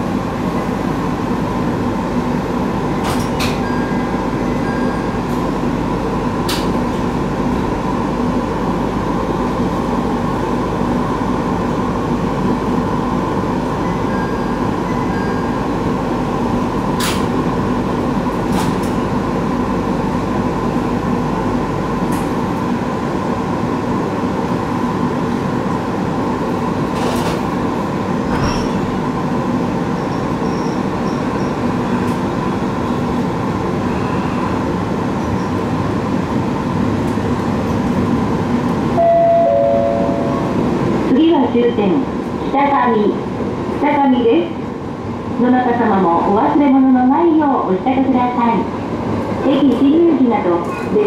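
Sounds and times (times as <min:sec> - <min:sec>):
constant train hum: 0:00.0 - 0:51.0
train wheels rumbling on rail: 0:00.0 - 0:51.0.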